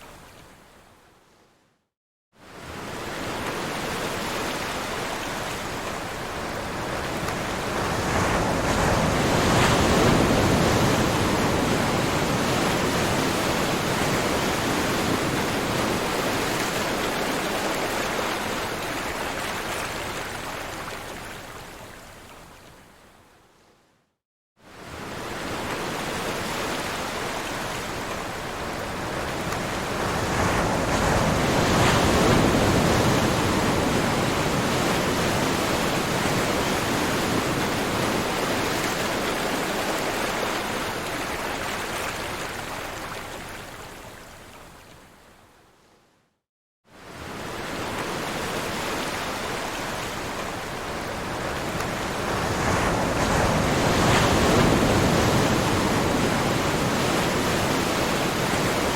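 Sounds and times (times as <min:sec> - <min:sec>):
ocean waves washing on shore: 0:02.4 - 0:23.0, 0:24.6 - 0:45.2, 0:46.9 - 0:58.9.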